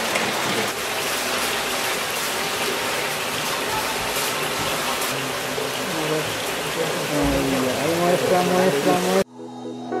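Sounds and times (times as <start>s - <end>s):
running water rushing: 0.0s - 9.2s.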